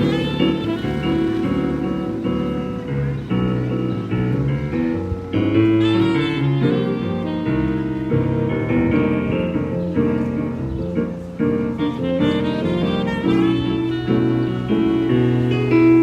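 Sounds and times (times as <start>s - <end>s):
keyboard playing chords: 0.0s - 16.0s.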